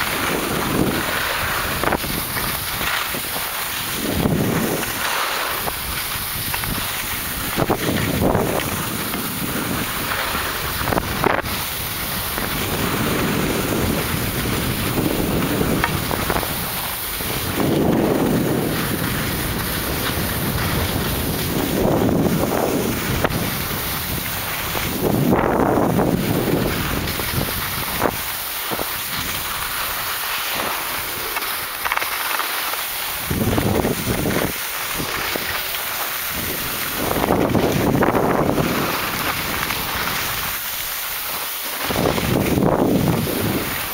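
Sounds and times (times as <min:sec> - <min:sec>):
wind rushing over microphone: 0:00.0 - 0:31.4, 0:33.1 - 0:35.6, 0:36.2 - 0:40.6, 0:41.8 - 0:43.9
skis scraping on packed snow: 0:00.0 - 0:43.9.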